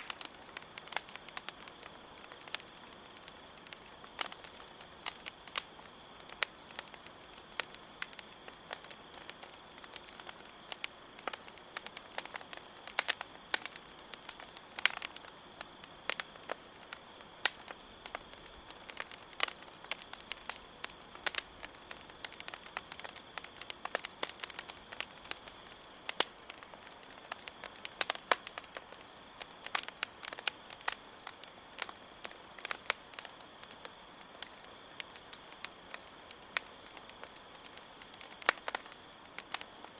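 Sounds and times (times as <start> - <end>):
crickets chirring: 0.0 - 39.9
wood fire crackling: 0.0 - 39.9.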